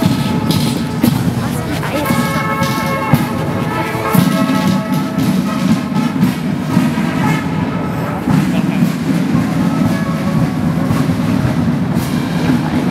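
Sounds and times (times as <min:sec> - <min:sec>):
military brass band playing: 0:00.0 - 0:12.9.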